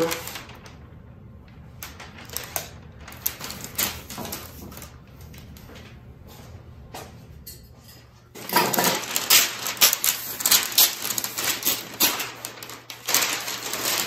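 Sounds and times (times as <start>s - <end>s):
paper crinkling and rustling: 0.0s - 6.0s, 8.3s - 14.0s.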